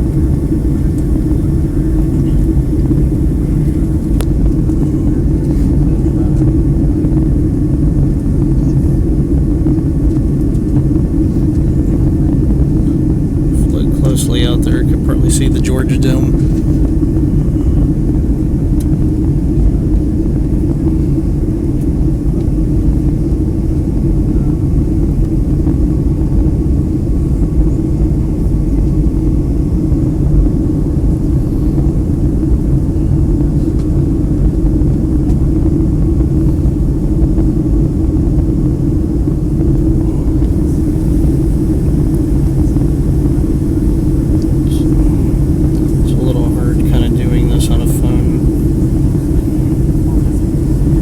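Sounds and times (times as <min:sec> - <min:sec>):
aircraft cabin drone: 0:00.0 - 0:51.0.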